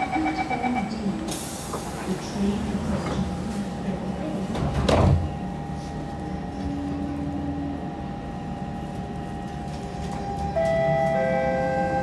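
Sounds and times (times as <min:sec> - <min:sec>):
train equipment hum: 0:00.0 - 0:12.0.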